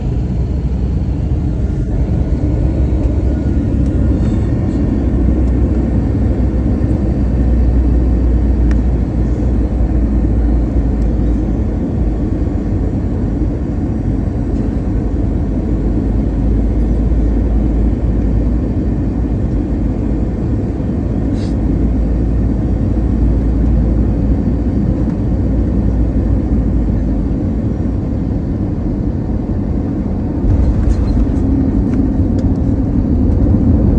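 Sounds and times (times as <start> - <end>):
jet engines and airflow rumble: 0.0 - 33.9.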